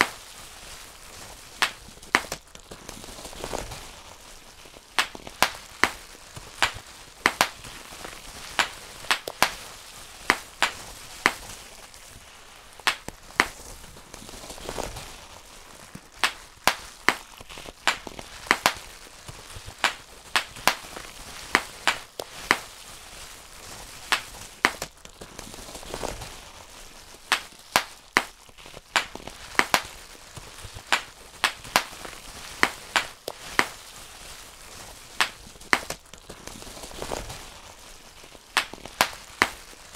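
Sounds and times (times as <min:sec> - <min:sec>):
bubble wrap popping: 0:00.0 - 0:39.9.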